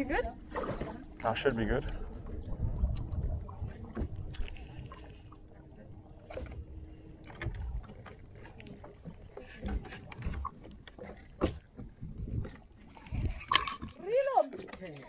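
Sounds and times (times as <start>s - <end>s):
water splashing around boat: 0.0s - 15.0s.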